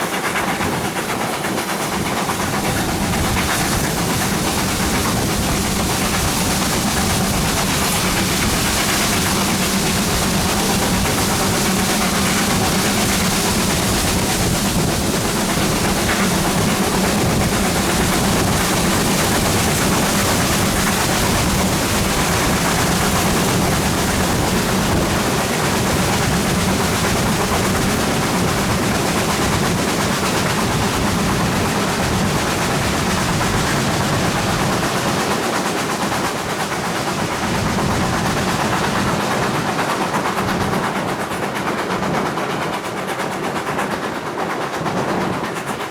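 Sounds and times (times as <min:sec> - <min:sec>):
steam locomotive working hard: 0:00.0 - 0:45.9.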